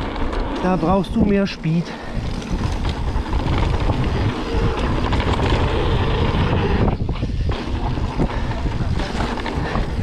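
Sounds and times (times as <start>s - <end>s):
bike rattling and knocking: 0.0s - 10.0s
tyres rumbling on dirt: 0.0s - 10.0s
wind rushing over microphone: 0.0s - 10.0s.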